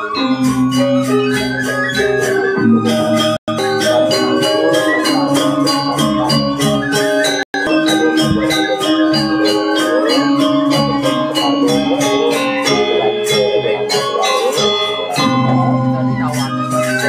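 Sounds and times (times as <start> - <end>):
gamelan ensemble playing: 0.0 - 17.0.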